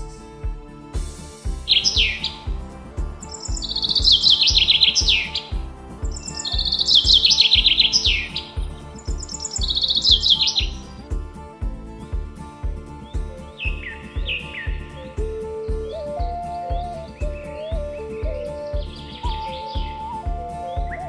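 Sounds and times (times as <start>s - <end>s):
background music with beat: 0.0s - 21.0s
chaffinch singing: 1.1s - 21.0s.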